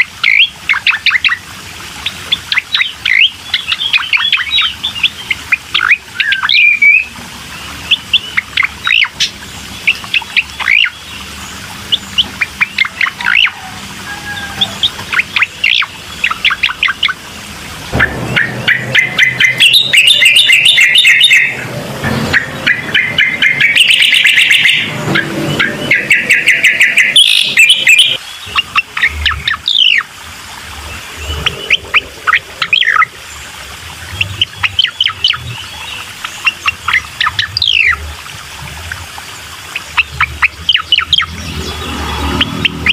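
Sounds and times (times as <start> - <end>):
recorded birdsong: 0.0 - 42.9.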